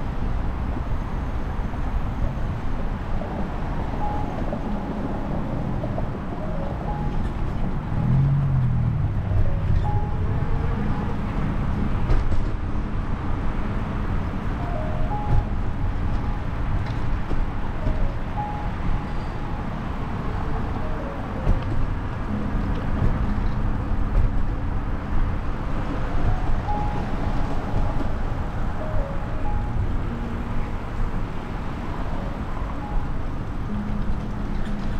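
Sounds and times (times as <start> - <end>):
wind and road noise rumbling: 0.0 - 34.9
simple tune of clear notes: 3.9 - 8.3, 9.2 - 24.8, 26.0 - 34.9.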